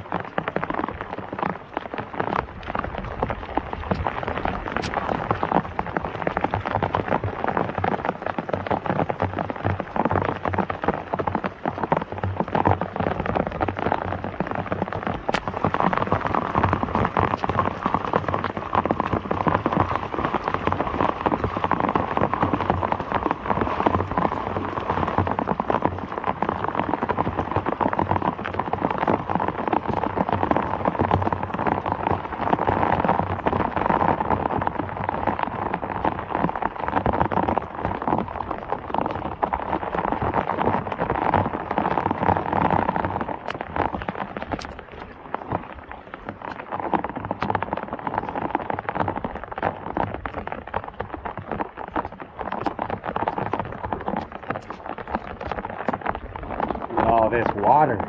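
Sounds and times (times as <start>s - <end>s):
heavy rain pelting down: 0.0s - 58.0s.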